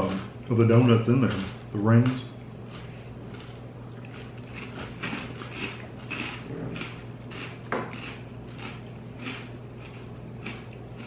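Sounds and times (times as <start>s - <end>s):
crunchy cereal chewing: 1.0s - 11.0s.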